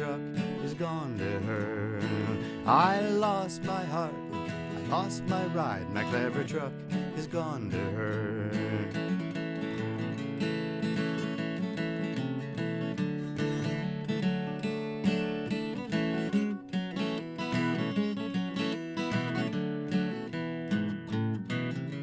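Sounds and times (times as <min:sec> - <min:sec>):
acoustic guitar strummed and picked: 0:00.0 - 0:22.0.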